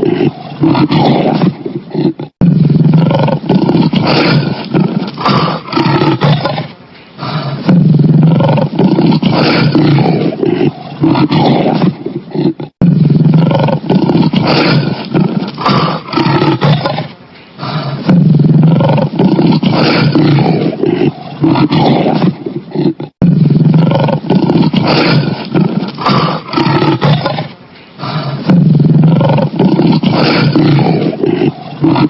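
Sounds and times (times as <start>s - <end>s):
lion roaring: 0.0s - 32.0s.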